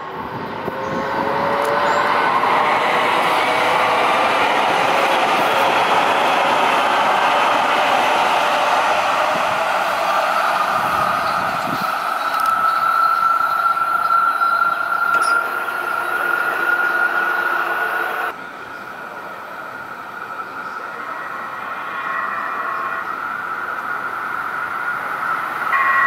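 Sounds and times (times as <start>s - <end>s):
train high whine: 0.0s - 26.0s
train rolling rumble: 0.0s - 26.0s.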